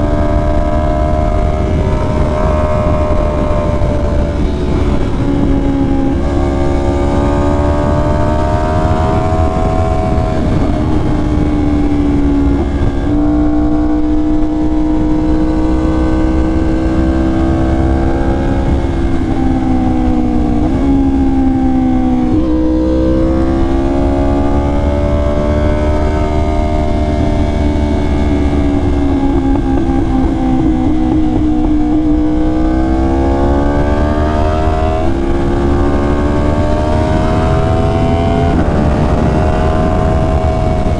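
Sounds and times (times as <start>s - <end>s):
motorcycle engine shifting gears: 0.0s - 40.9s
wind rumble: 0.0s - 40.9s.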